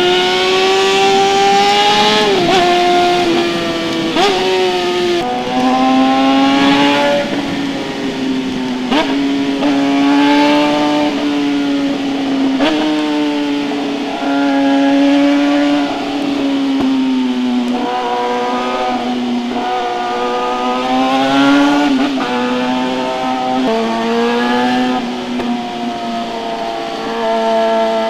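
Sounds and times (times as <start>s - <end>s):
exhaust crackles: 0.0s - 28.0s
motorcycle engine steady note: 0.0s - 28.0s.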